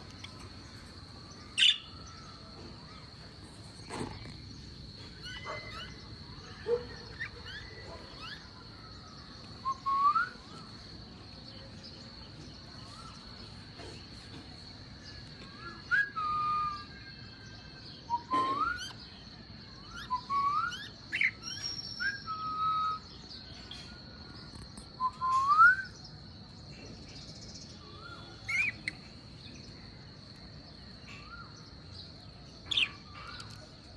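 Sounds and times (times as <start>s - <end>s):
lovebirds chirping and calling: 0.0s - 16.0s, 19.9s - 26.1s, 26.8s - 33.9s.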